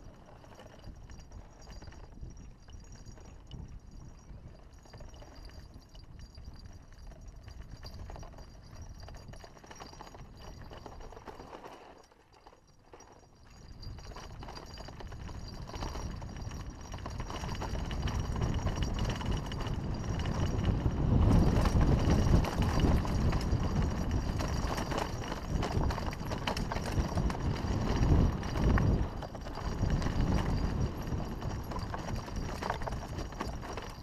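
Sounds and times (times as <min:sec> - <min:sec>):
wind rumble on microphone: 0:00.0 - 0:11.3, 0:13.4 - 0:34.0
mountain bike rattling: 0:00.0 - 0:34.0.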